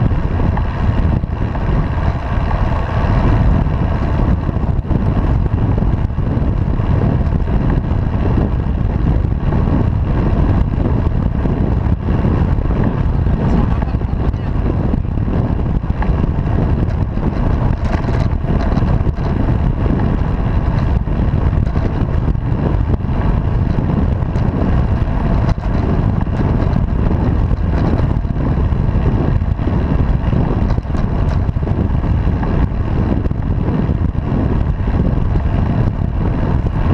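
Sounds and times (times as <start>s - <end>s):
road noise: 0.0s - 36.9s
wind buffeting microphone: 0.0s - 36.9s.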